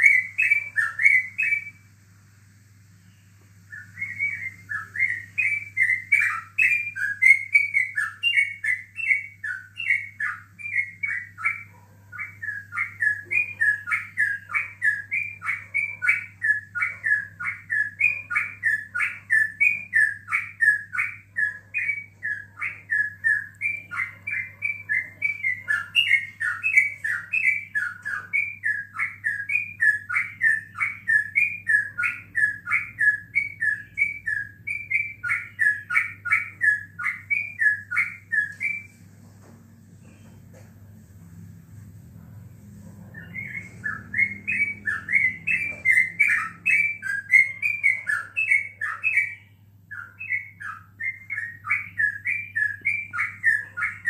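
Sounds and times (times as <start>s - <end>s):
bird singing whistled notes: 0.0s - 1.8s, 3.0s - 39.0s, 43.1s - 54.0s.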